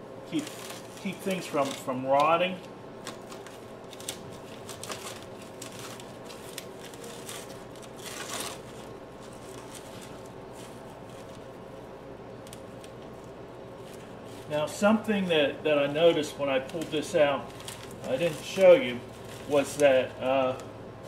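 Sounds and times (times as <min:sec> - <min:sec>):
potting mix crunching and rustling: 0:00.1 - 0:21.0.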